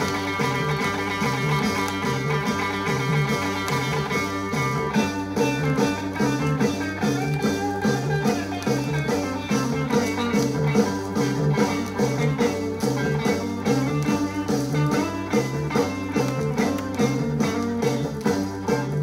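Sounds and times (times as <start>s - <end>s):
bass line and beat: 0.0s - 19.0s
psychedelic rock guitar: 0.0s - 19.0s.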